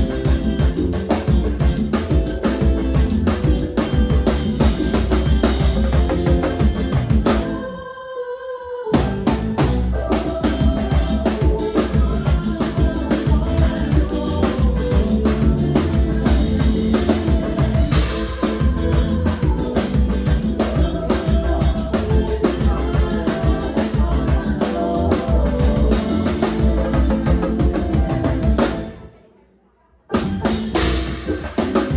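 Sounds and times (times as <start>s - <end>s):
drum kit beat: 0.0s - 7.6s, 9.0s - 29.0s, 30.1s - 31.9s
live band playing: 0.0s - 7.7s, 9.0s - 29.1s, 30.1s - 31.9s.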